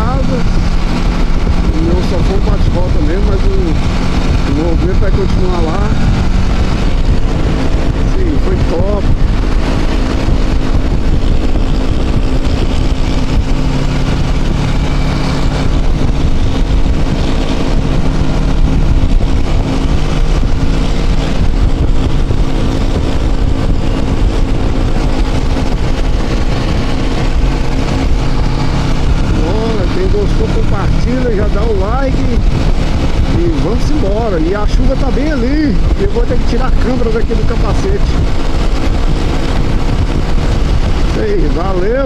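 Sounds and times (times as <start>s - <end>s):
motorcycle engine running: 0.0s - 42.0s
wind rumble on microphone: 0.0s - 42.0s.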